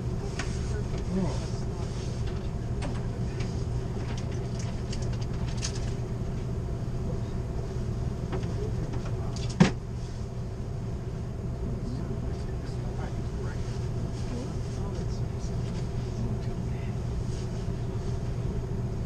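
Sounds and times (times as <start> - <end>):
low hum inside train car: 0.0 - 19.0.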